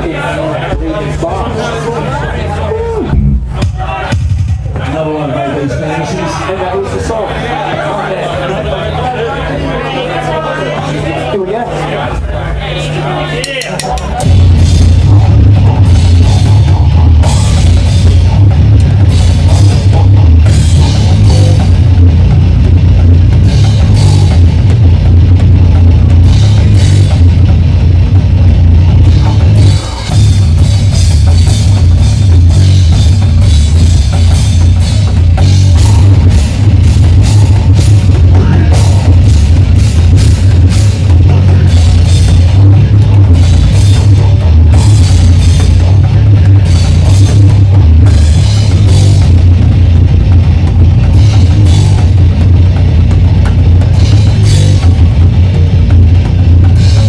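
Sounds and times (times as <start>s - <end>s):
death metal band playing: 0.0s - 57.0s.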